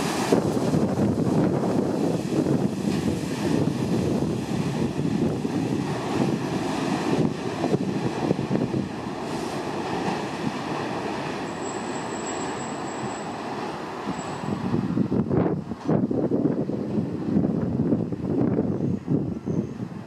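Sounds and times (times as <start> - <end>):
elevated train rumbling on track: 0.0 - 20.0.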